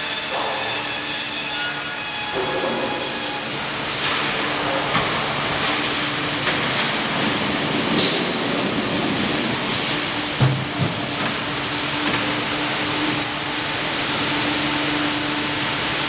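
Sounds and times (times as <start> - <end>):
log carriage rolling on rails: 0.0 - 16.0.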